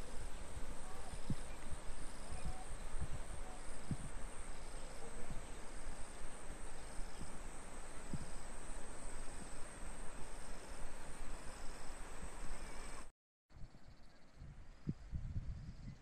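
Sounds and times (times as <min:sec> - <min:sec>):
outdoor hiss: 0:00.0 - 0:13.1
insects droning: 0:00.0 - 0:15.0
insect chirp: 0:00.0 - 0:16.0.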